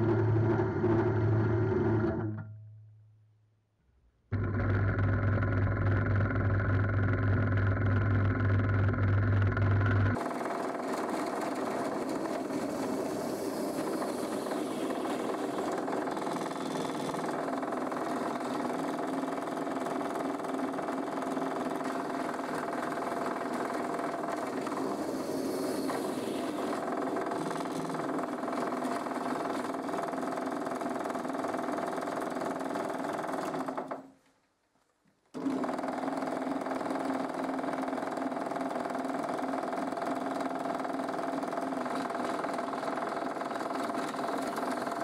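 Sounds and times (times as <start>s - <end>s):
drill press motor humming: 0.0s - 2.4s, 4.3s - 34.1s, 35.4s - 45.0s.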